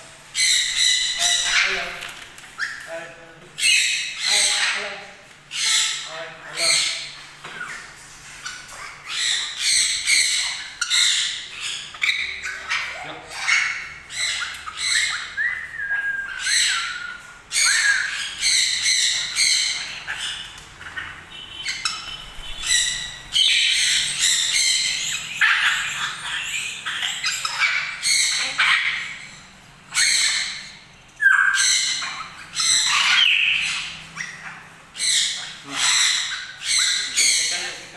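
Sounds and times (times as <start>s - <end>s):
parrots squawking: 0.2s - 37.9s.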